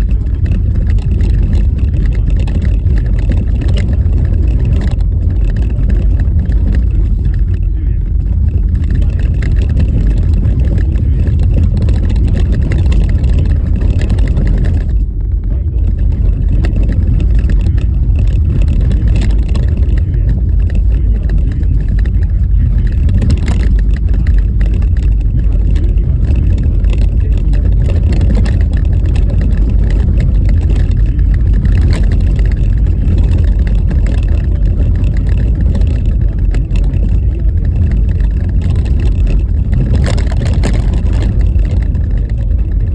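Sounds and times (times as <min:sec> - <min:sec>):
car knocks and rattles: 0:00.0 - 0:42.9
road and wind rumble: 0:00.0 - 0:42.9.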